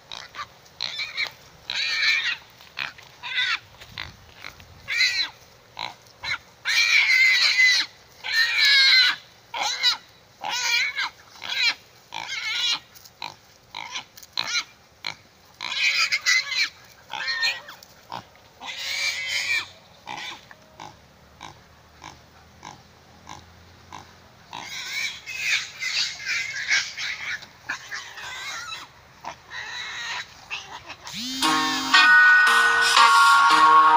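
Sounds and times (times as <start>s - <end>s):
pig squealing: 0.1s - 4.1s, 4.9s - 12.9s, 13.8s - 14.7s, 15.6s - 32.0s.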